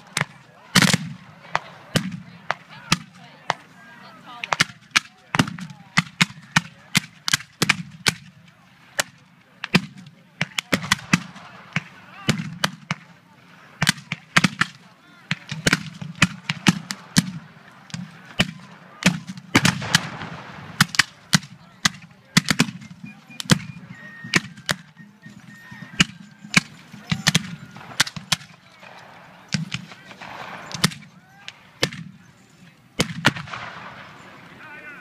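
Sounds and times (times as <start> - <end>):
muskets firing blanks: 0.0 - 35.0.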